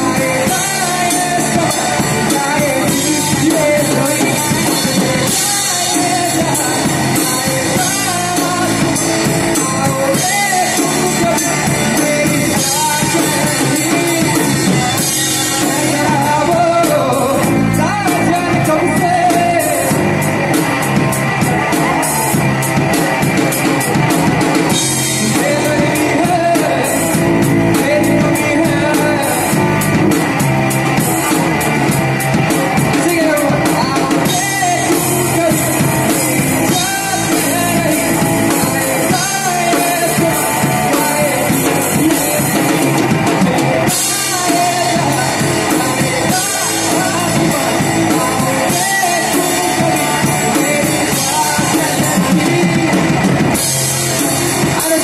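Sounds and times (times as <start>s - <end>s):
person singing into microphone: 0.0s - 55.0s
rock band playing: 0.0s - 55.0s.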